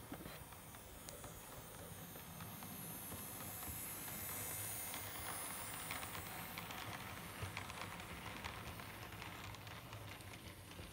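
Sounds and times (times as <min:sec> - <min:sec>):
model train wheels clicking on rails: 0:00.0 - 0:10.9.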